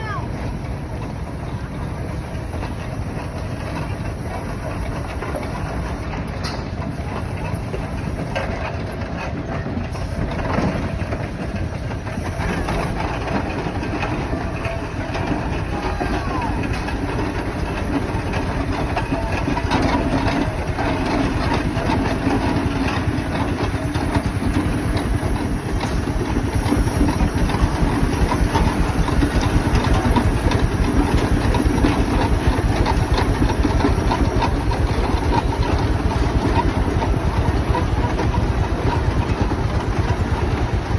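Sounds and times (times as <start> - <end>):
steam traction engine running: 0.0 - 40.9.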